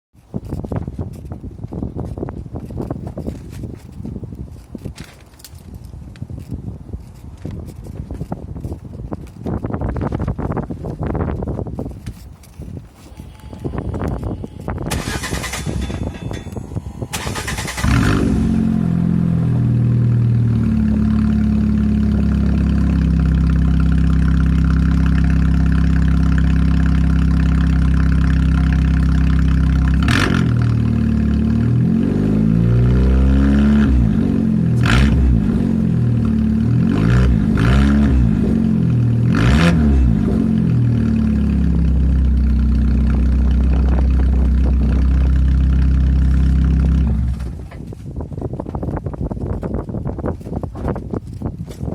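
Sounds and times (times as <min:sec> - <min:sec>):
unmuffled car engine idling and revving: 0:00.2 - 0:51.9.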